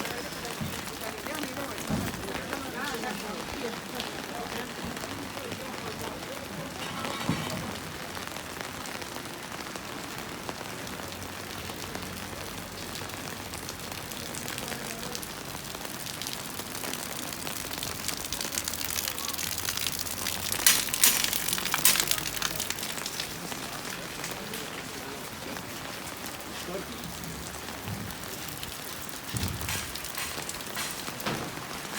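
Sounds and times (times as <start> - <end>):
rain pattering: 0.0 - 31.9.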